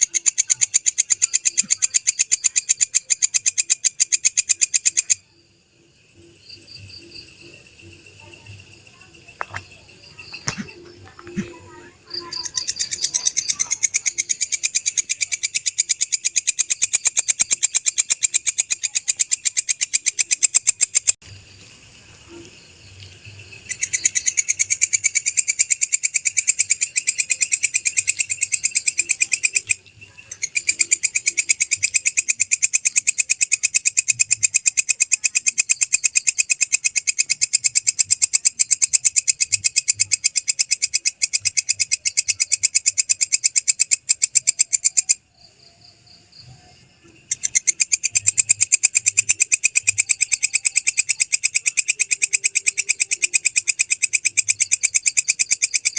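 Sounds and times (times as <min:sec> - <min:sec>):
insect shrill chirping: 0:00.0 - 0:55.9.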